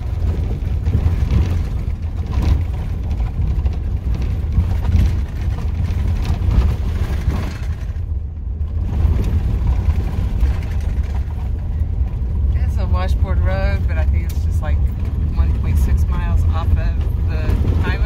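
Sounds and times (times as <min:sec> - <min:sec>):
gravel clicks: 0:00.0 - 0:18.0
vehicle road rumble: 0:00.0 - 0:18.0.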